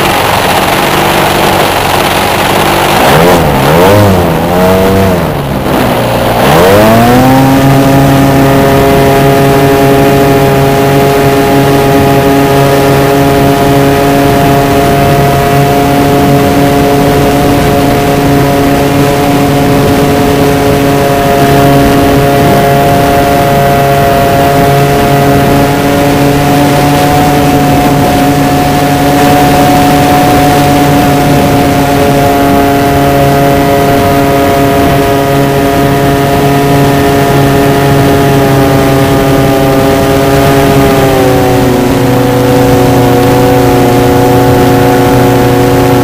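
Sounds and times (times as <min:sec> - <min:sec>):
model plane motor and propeller: 0:00.0 - 0:46.0.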